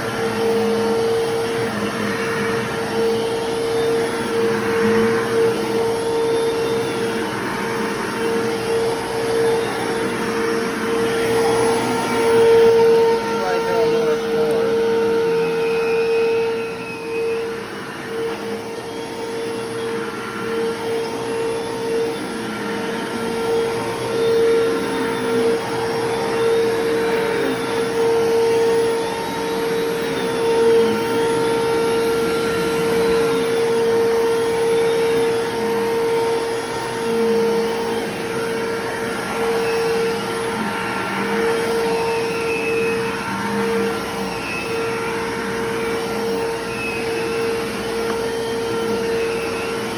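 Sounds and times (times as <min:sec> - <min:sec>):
vacuum cleaner motor whine: 0:00.0 - 0:49.9.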